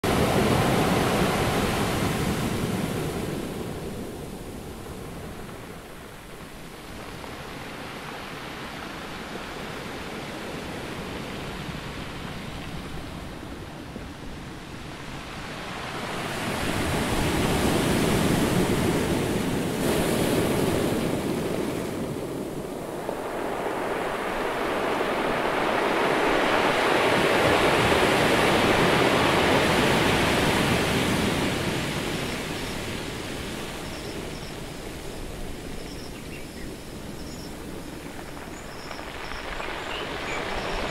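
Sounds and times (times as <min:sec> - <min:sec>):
ocean surf washing over beach: 0:00.0 - 0:40.9.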